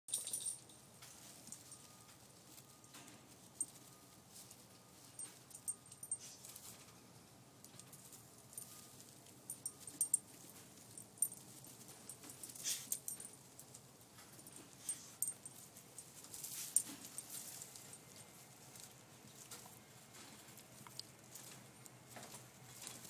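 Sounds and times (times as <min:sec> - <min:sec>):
dry hay rustling and crackling: 0:00.3 - 0:07.1, 0:07.7 - 0:23.0.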